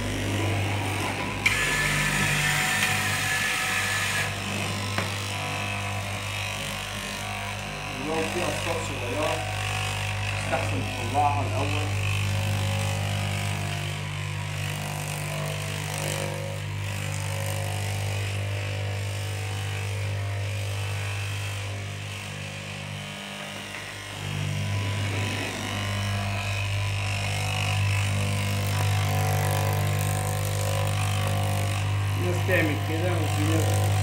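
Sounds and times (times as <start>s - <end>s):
electric cloth cutter cutting fabric: 0.0s - 34.0s.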